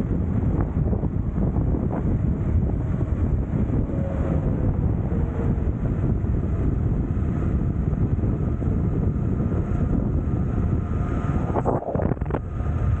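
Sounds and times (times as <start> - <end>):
skateboard wheels rolling on asphalt: 0.0 - 13.0
wind buffeting microphone: 0.0 - 13.0.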